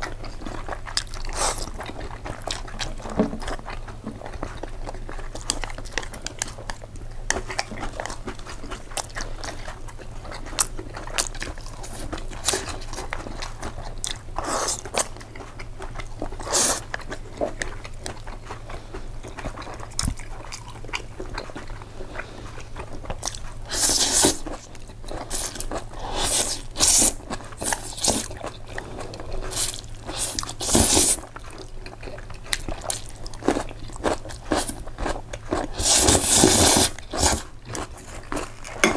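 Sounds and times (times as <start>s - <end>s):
person chewing food: 0.0s - 38.9s.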